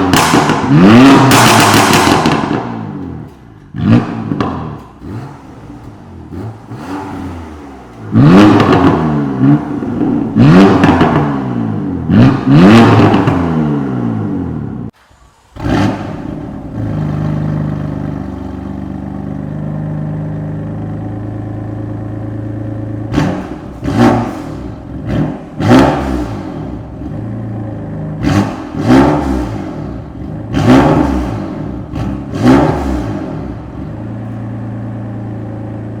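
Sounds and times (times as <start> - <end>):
car engine revving and idling: 0.0 - 36.0.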